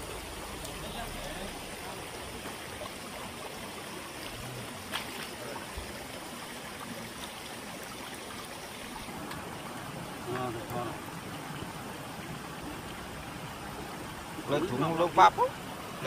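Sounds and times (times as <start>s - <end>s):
stream trickling over stones: 0.0s - 16.0s.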